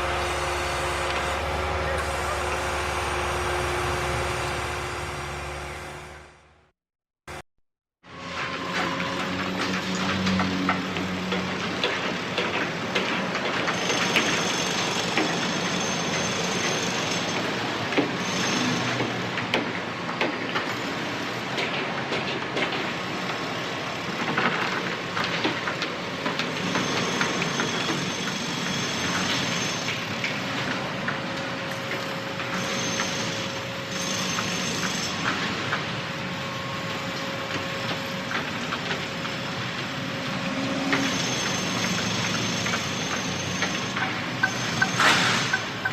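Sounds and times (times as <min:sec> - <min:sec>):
construction machinery running: 0:00.0 - 0:06.7, 0:08.1 - 0:45.9.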